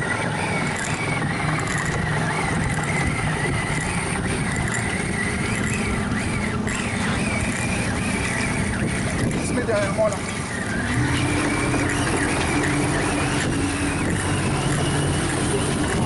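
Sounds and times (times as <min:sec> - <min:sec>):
boat engine running: 0:00.0 - 0:16.0
high wavering whine: 0:00.0 - 0:16.0.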